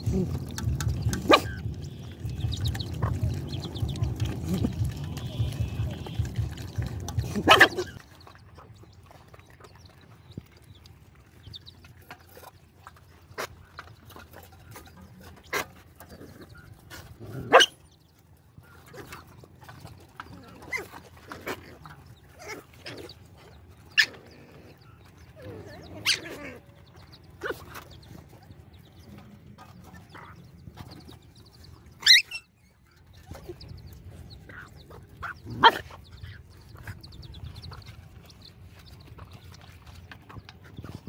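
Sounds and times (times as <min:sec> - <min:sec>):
dogs chewing and lapping: 0:00.0 - 0:41.0.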